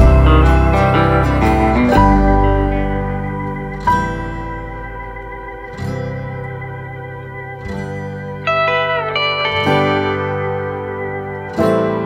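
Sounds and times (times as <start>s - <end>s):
held music chord: 0.0s - 12.0s.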